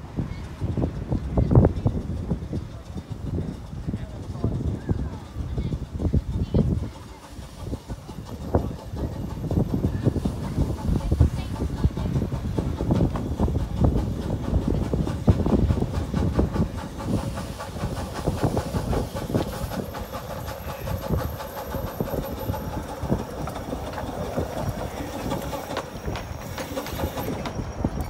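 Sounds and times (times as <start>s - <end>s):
steam locomotive rhythmic beat: 0.0s - 28.0s
steam hiss: 3.0s - 28.0s.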